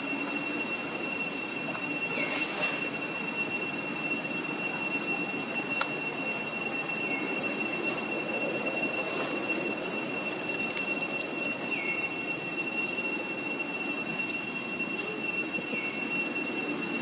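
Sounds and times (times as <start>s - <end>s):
night insects droning: 0.0s - 17.0s.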